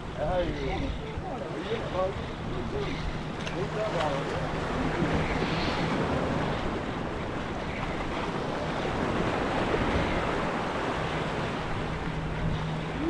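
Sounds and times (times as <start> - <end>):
ocean waves washing: 0.0 - 13.0
wind buffeting microphone: 0.0 - 13.0.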